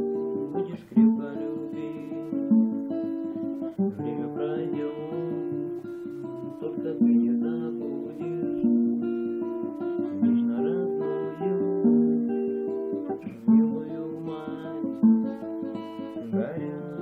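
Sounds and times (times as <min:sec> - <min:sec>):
acoustic guitar: 0:00.0 - 0:17.0.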